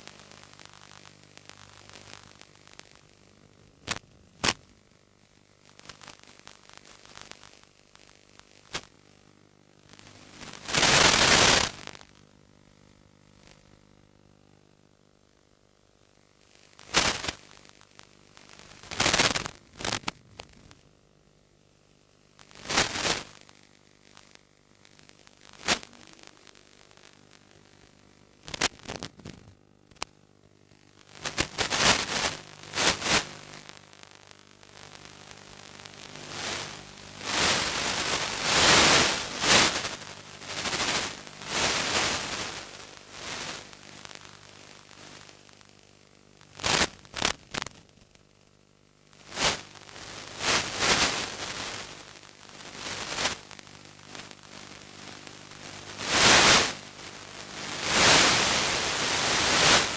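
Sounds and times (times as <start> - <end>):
crackling radio static: 0.0 - 59.9
faint steady hum: 0.0 - 59.9.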